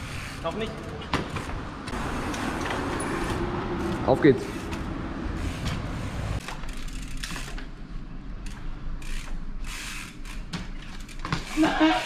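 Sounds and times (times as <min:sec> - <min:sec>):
bicycle freewheel hub ratcheting: 0:00.0 - 0:01.5, 0:02.2 - 0:07.8, 0:08.4 - 0:12.0
street traffic rumble: 0:00.0 - 0:12.0.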